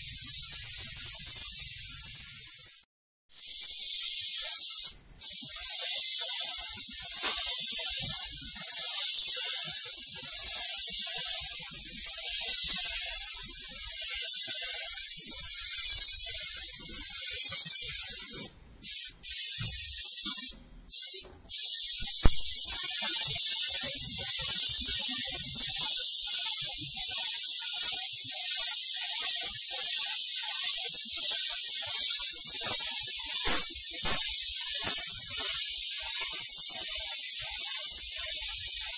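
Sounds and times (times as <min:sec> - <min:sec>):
spray gun hissing: 0:00.0 - 0:02.8, 0:03.4 - 0:38.9.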